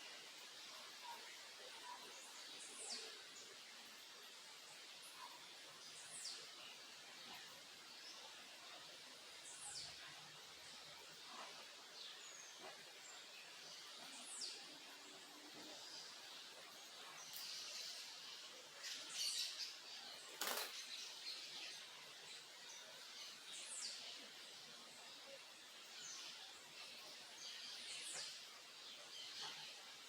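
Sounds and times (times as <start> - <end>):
faint steady hiss: 0.0 - 30.0
small songbirds chirping: 0.0 - 30.0.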